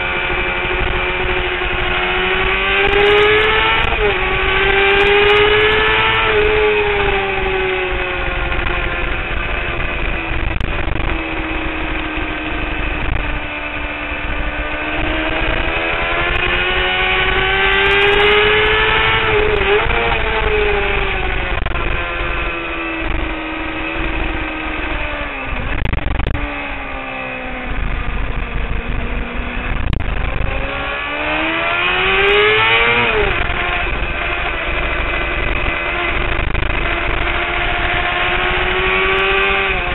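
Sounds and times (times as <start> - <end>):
motorcycle engine at high revs: 0.0 - 39.9
rush of wind: 0.0 - 39.9.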